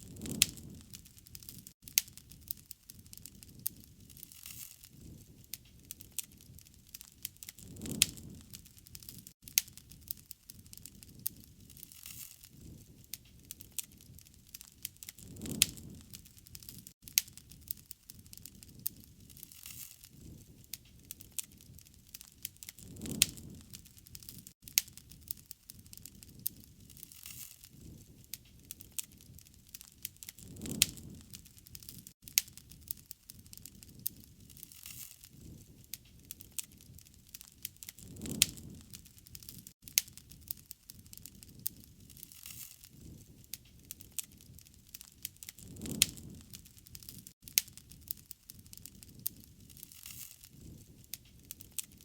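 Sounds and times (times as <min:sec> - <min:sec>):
campfire crackling and popping: 0:00.0 - 0:52.0
low rushing of flames: 0:00.0 - 0:52.0.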